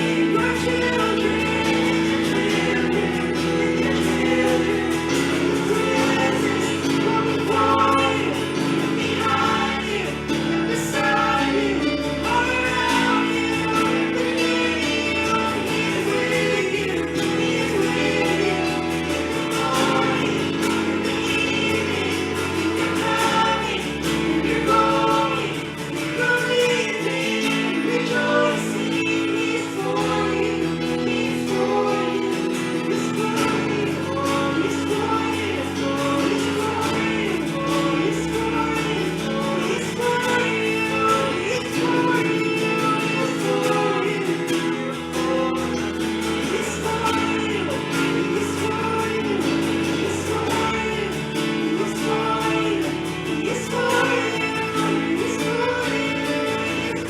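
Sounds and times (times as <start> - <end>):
band playing: 0.0 - 57.0
group singing worship song: 0.0 - 57.0.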